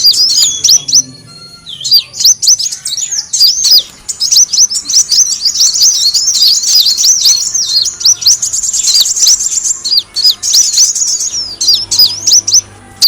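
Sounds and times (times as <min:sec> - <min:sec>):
sunbird chirping: 0:00.0 - 0:13.0.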